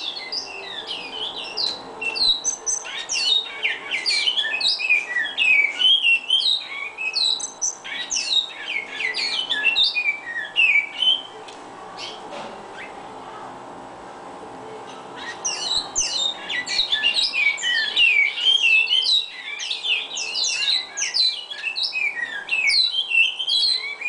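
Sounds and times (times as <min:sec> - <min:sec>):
finch singing warble: 0:00.0 - 0:11.4, 0:15.2 - 0:24.0.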